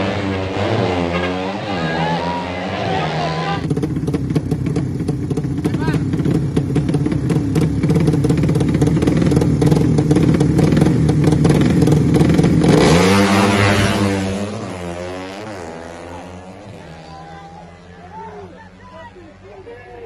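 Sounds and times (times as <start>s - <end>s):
motorcycles revving: 0.0s - 20.0s.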